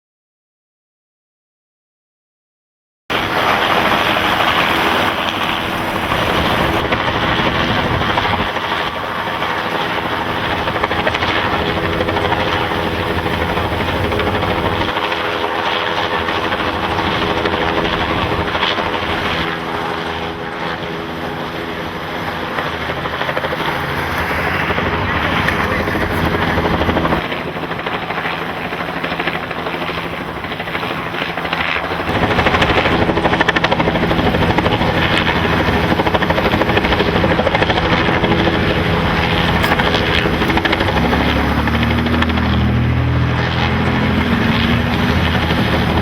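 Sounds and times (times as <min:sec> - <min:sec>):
loud engine drone: 0:03.1 - 0:46.0.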